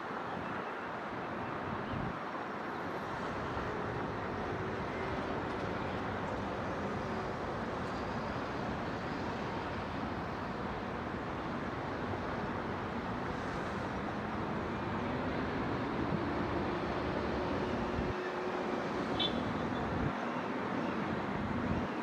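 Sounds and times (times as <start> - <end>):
distant city traffic: 2.6 - 22.0.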